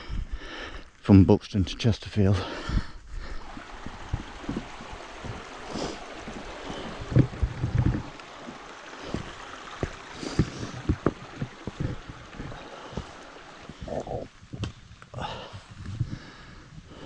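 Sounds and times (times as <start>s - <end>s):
wind buffeting microphone: 2.7s - 17.0s.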